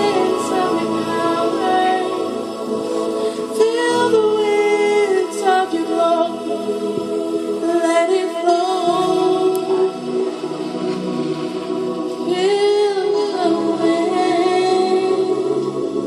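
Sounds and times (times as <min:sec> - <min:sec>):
women singing gospel: 0:00.0 - 0:16.0.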